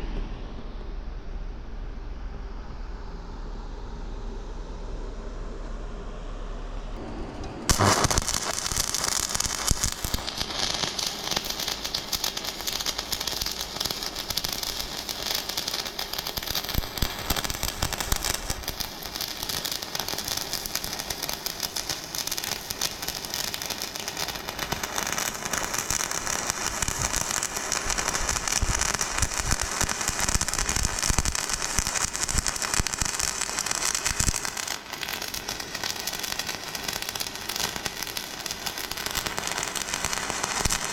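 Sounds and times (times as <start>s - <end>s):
welding arc crackling: 7.7s - 40.9s.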